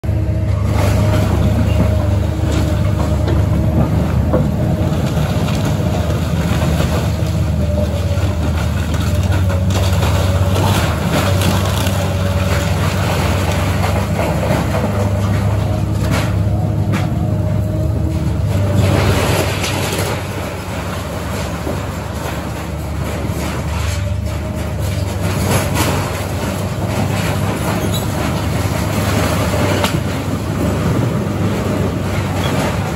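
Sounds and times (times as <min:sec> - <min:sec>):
excavator diesel engine whining: 0:00.0 - 0:32.9
debris cracking and knocking: 0:00.7 - 0:17.3, 0:18.1 - 0:32.9.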